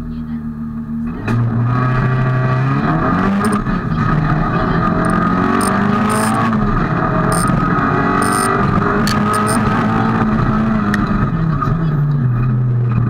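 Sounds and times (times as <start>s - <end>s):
car engine accelerating: 1.1s - 13.0s.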